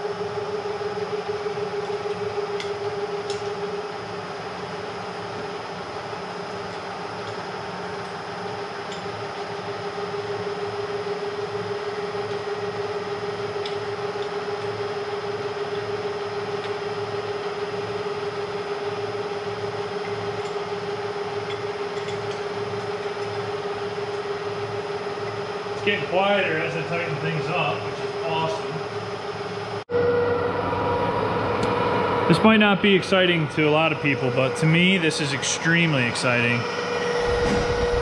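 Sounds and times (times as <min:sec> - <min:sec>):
milling machine humming and whining: 0:00.0 - 0:38.0.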